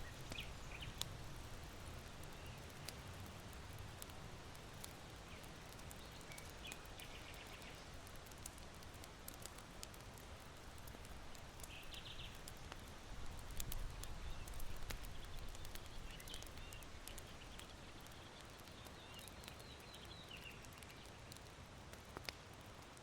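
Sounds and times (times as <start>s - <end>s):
charcoal crackling and popping: 0.0s - 23.0s
wind hiss through bamboo: 0.0s - 23.0s.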